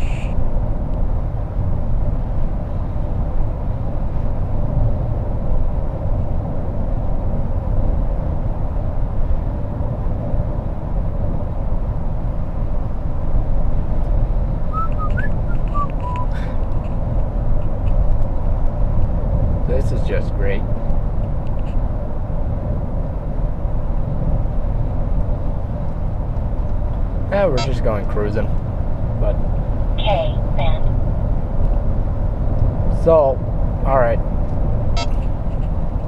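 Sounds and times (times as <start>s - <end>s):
road and engine rumble: 0.0s - 36.0s.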